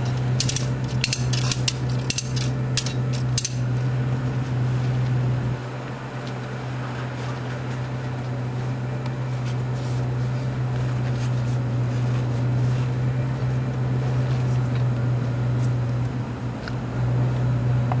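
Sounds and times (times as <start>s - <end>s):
low machine drone: 0.0s - 18.0s.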